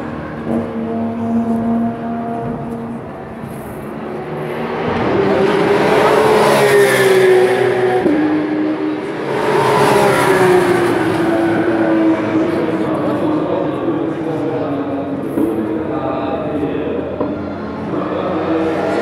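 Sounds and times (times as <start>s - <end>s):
racing car engines accelerating past: 0.0s - 19.0s.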